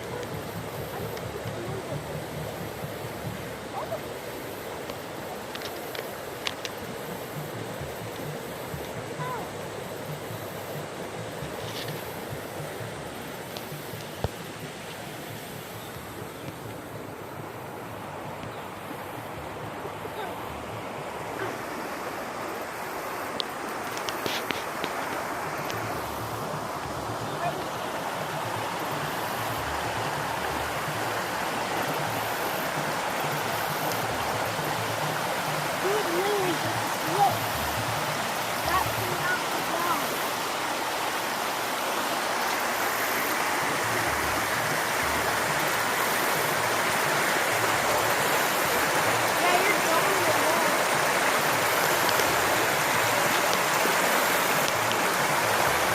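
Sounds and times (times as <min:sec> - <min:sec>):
rushing floodwater: 0:00.0 - 0:55.9.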